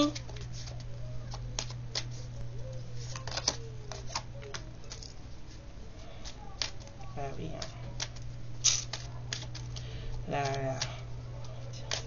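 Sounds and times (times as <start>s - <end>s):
cards clicking and tapping: 0.0s - 2.3s, 3.0s - 5.2s, 6.2s - 12.0s
steady low hum: 0.0s - 12.0s.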